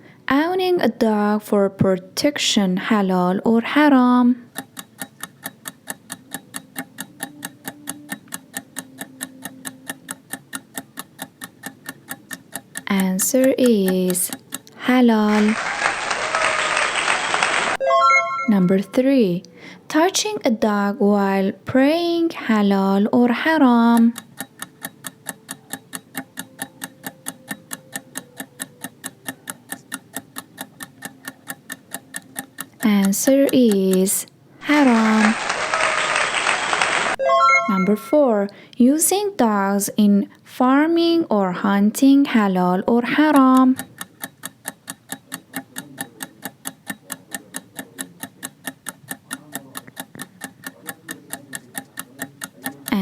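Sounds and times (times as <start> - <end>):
countdown timer ticking: 2.6 - 15.5, 17.8 - 35.3, 37.2 - 53.0.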